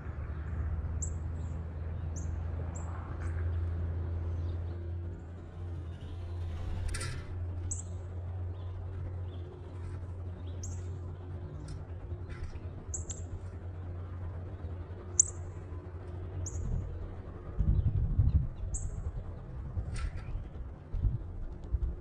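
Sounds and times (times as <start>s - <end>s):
steady low hum: 0.0s - 22.0s
low rumbling: 3.5s - 22.0s.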